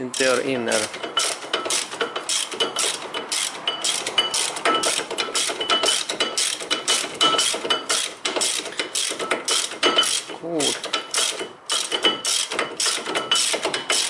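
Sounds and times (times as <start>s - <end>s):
ratchet wrench clicking: 0.1s - 14.0s.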